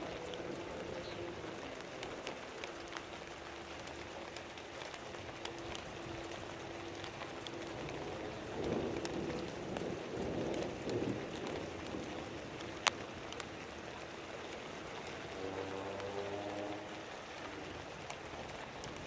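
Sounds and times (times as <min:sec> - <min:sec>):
heavy rain falling: 0:00.0 - 0:19.0
sharp drip ticks: 0:00.0 - 0:19.0.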